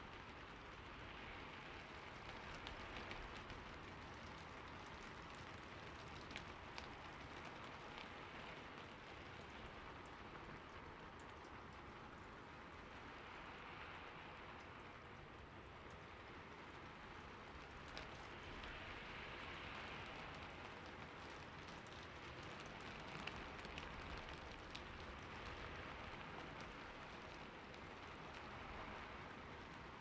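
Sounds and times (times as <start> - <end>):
rain falling on a roof: 0.0 - 30.0.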